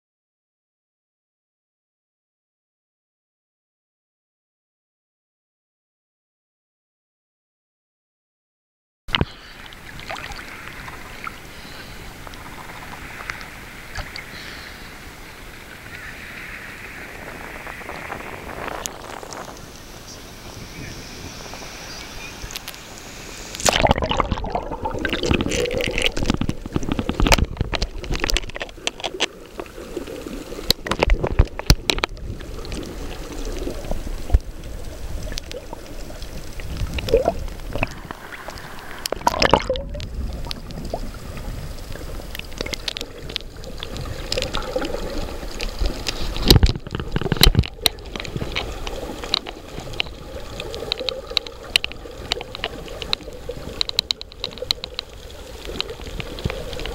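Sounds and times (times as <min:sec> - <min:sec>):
water sloshing and gurgling: 0:09.1 - 0:20.8, 0:21.4 - 0:56.9.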